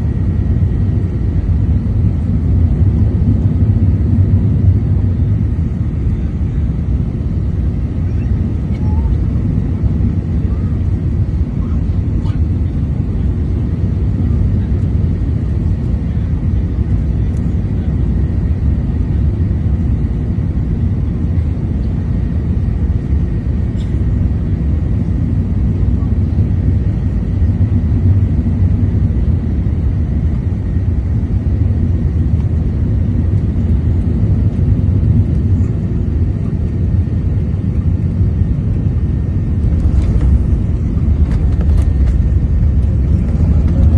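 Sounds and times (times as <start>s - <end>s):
jet cabin engine rumble: 0.0s - 43.9s.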